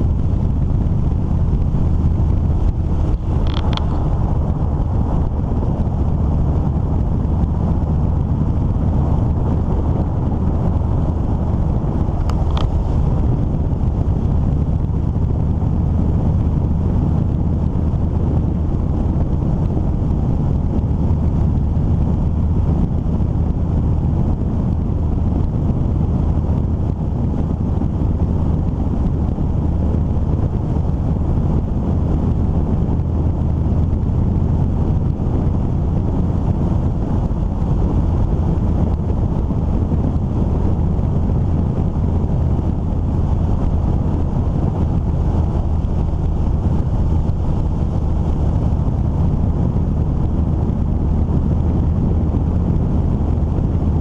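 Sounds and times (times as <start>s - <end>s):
vehicle driving drone: 0.0s - 54.0s
wind rushing on microphone: 0.0s - 54.0s.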